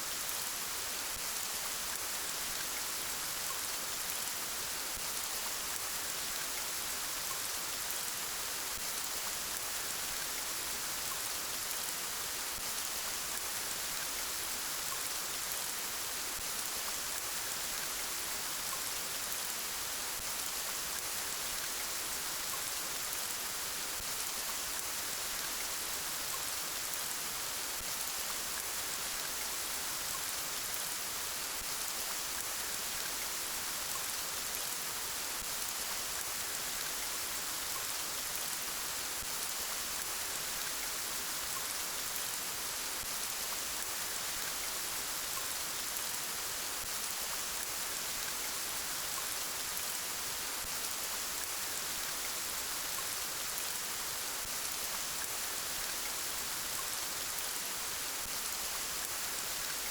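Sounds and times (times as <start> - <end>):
gentle rain falling: 0.0 - 59.9.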